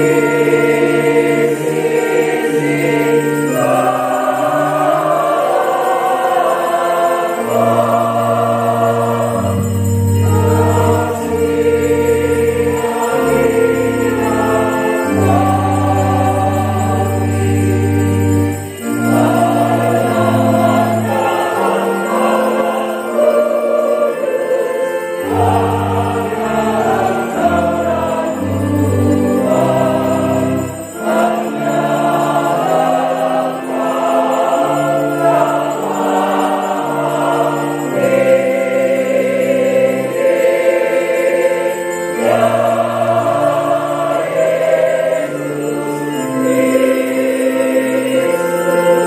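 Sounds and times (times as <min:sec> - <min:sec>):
choir singing a hymn: 0:00.0 - 0:49.0.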